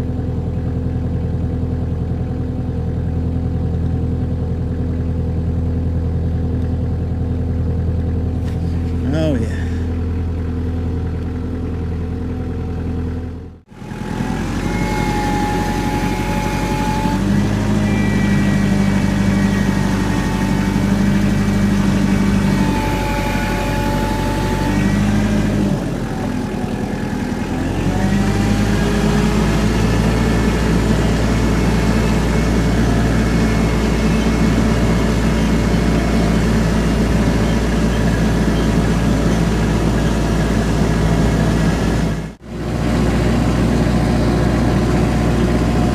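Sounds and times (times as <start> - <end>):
engine running steadily: 0.0 - 45.9
whining tone: 5.1 - 45.9.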